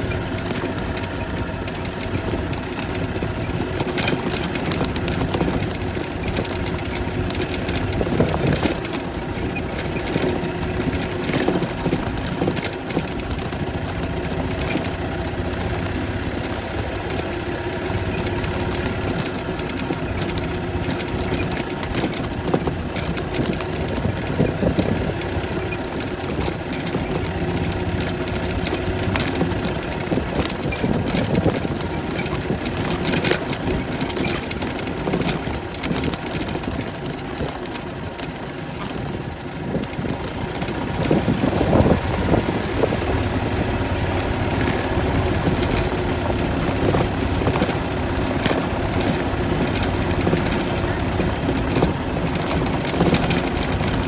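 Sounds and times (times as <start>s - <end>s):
golf cart motor drone: 0.0s - 54.0s
rattles and knocks: 0.0s - 54.0s.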